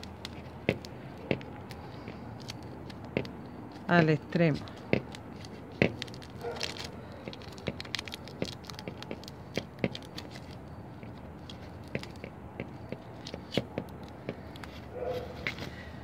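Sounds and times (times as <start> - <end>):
sticky tape crinkling: 0.0 - 15.7.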